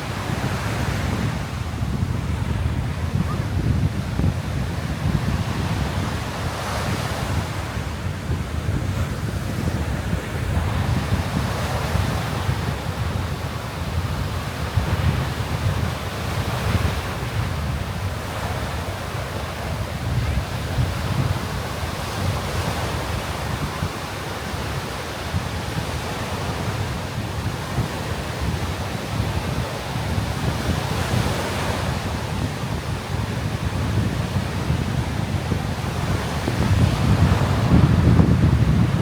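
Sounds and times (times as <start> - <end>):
surf breaking on beach: 0.0 - 39.0
wind buffeting microphone: 0.0 - 39.0.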